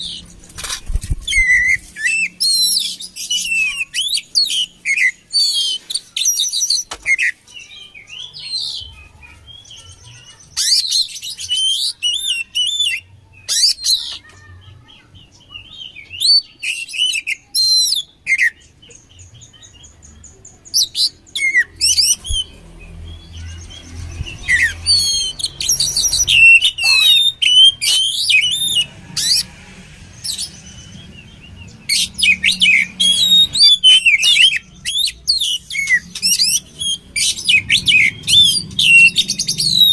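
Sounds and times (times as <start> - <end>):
bird singing whistles and trills: 1.2 - 14.2, 15.3 - 29.5, 30.2 - 39.9.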